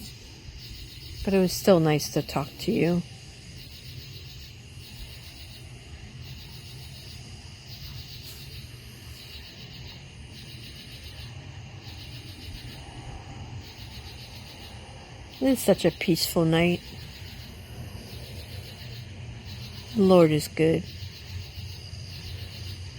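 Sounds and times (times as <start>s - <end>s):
insects trilling: 0.0s - 22.9s.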